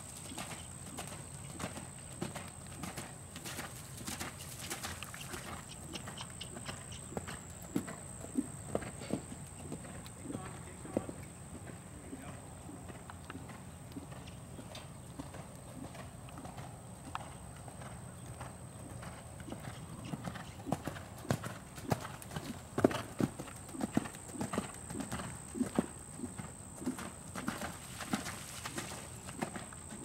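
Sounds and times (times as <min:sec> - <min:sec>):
horse hoofbeats on sand: 0:00.0 - 0:30.0.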